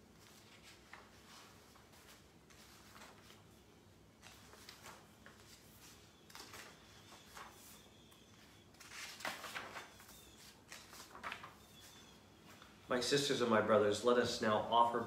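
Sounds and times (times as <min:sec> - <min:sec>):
paper pages rustling: 0:00.0 - 0:12.7.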